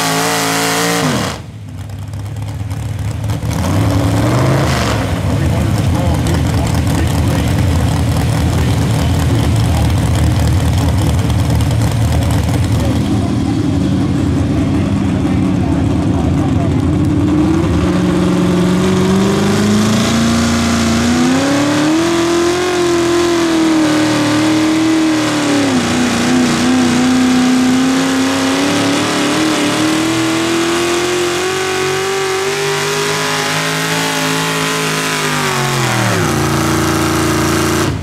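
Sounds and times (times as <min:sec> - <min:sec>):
tractor engine at high revs: 0:00.0 - 0:38.0.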